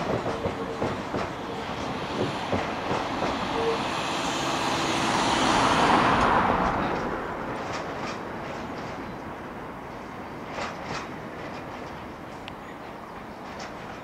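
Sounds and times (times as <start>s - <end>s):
wheels clicking over rail joints: 0.0s - 3.6s, 6.2s - 14.0s
freight train passing: 0.0s - 14.0s.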